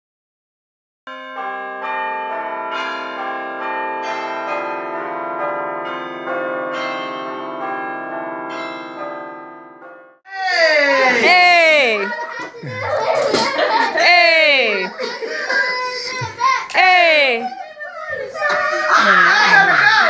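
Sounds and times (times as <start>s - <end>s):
peal of bells ringing: 1.1s - 20.0s.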